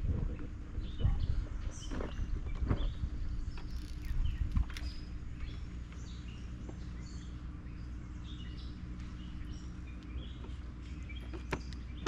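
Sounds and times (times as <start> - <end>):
steady low hum: 0.0 - 12.0
birds chirping: 0.7 - 12.0.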